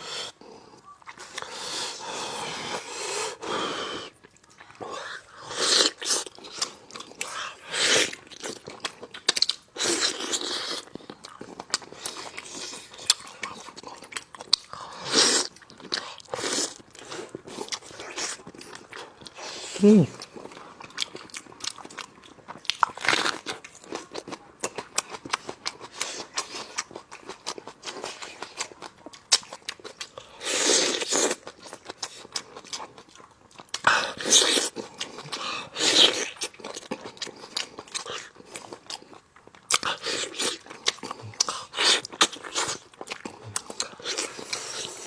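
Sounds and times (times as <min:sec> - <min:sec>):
chewing and crunching meat: 0:00.0 - 0:45.0.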